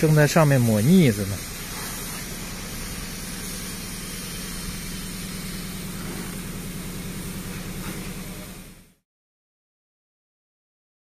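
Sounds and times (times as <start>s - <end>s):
steady mechanical hum: 0.0s - 9.0s.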